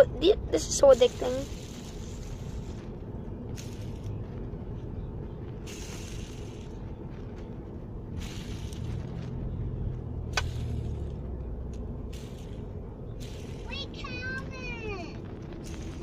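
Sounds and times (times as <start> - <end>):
low hum: 0.0 - 16.0
vehicle cabin rumble: 0.0 - 16.0.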